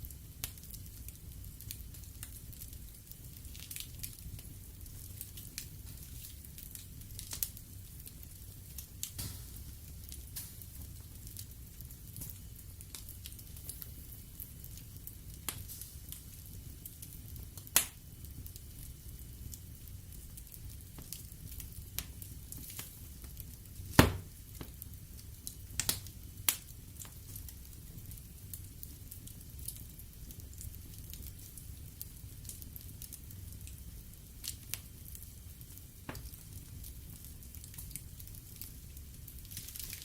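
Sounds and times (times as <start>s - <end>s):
burning logs crackling and popping: 0.0s - 40.0s.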